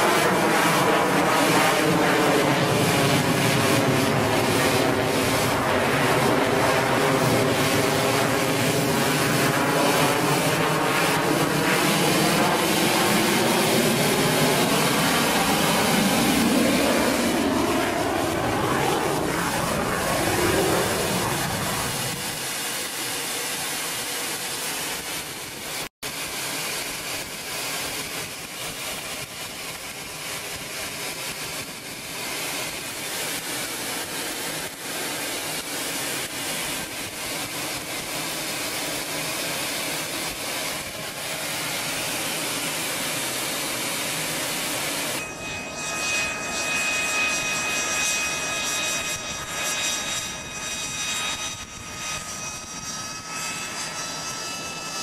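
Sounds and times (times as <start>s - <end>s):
jet engine and rushing air: 0.0s - 55.0s
jet engine high whine: 0.0s - 55.0s.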